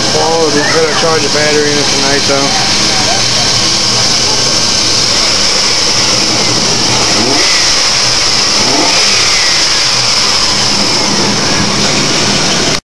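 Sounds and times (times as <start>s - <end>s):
loud steady hiss: 0.0s - 12.8s
pickup engine running: 0.0s - 12.8s.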